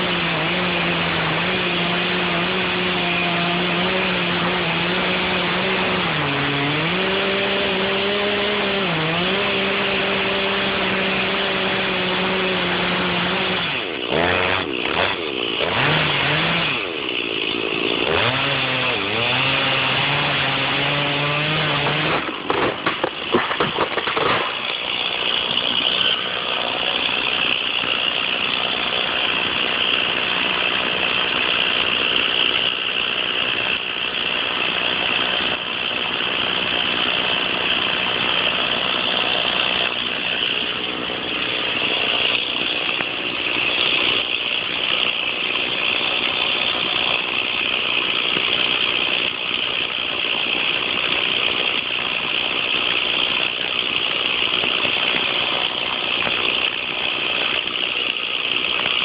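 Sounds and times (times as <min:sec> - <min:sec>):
chainsaw engine running: 0:00.0 - 0:59.0.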